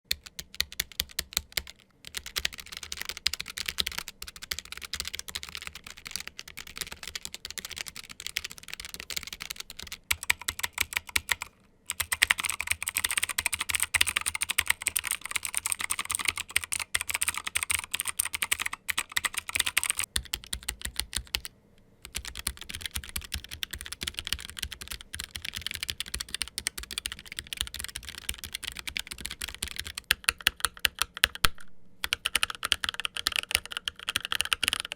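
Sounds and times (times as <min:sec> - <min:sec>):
fast typing on mechanical keyboard: 0:00.1 - 0:34.9.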